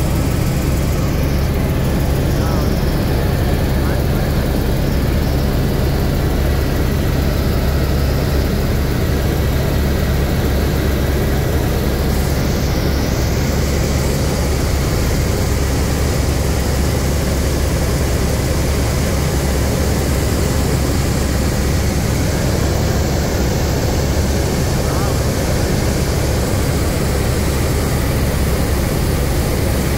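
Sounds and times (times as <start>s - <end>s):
helicopter rotor and engine drone: 0.0s - 29.9s.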